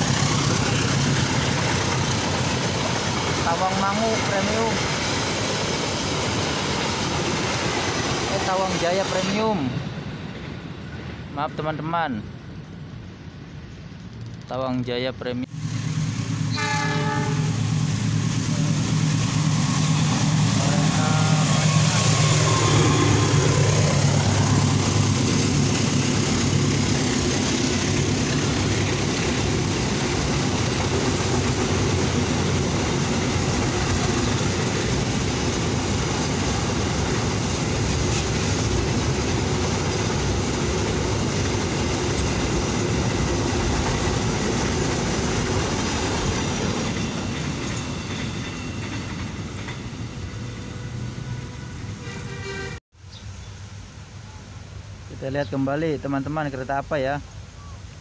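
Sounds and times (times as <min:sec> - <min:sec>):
train wheels rumbling on track: 0:00.0 - 0:52.8
diesel locomotive engine: 0:00.0 - 0:58.0.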